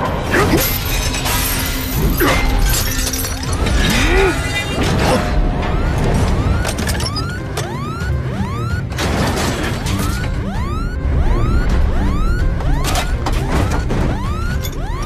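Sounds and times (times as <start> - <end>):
action soundtrack music: 0.0 - 15.0.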